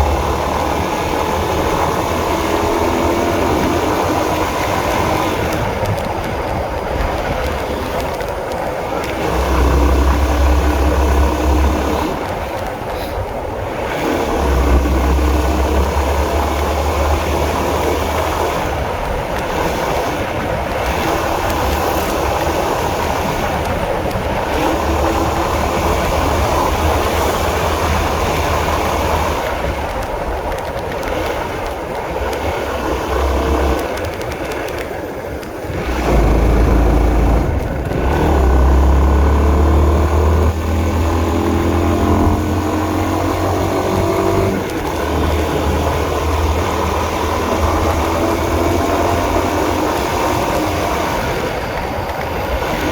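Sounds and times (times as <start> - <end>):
motorcycle engine rumble: 0.0 - 52.9.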